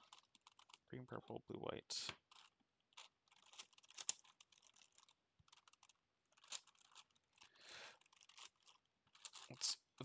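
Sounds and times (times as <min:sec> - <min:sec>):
plastic puzzle clicking: 0:00.0 - 0:00.9, 0:02.1 - 0:10.0.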